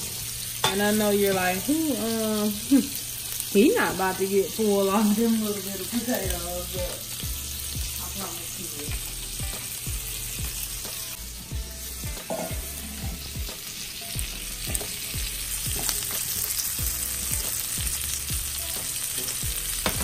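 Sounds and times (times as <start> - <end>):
fat sizzling in pans: 0.0 - 20.0.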